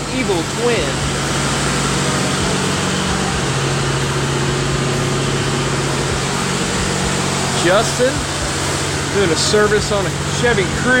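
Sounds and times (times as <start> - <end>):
broad rushing noise: 0.0 - 11.0
steady mechanical hum: 0.0 - 11.0.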